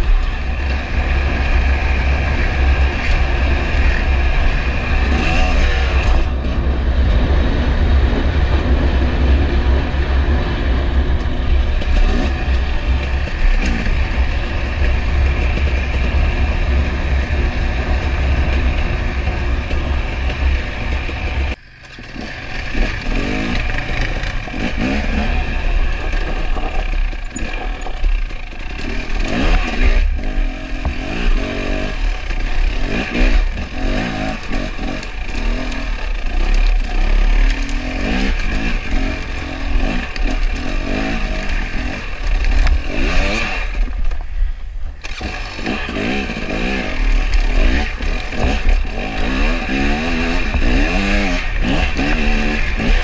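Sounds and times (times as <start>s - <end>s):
wind rumbling on microphone: 0.0s - 45.4s
dirt bike engine revving: 0.0s - 53.0s.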